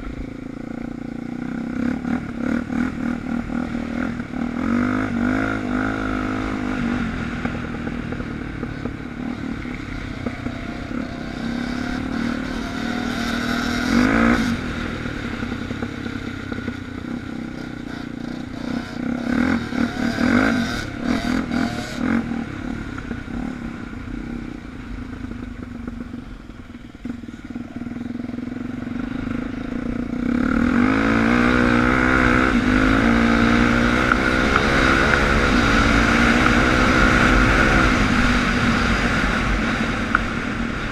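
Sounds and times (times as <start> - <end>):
dirt bike engine revving: 0.0 - 25.3, 26.7 - 40.9.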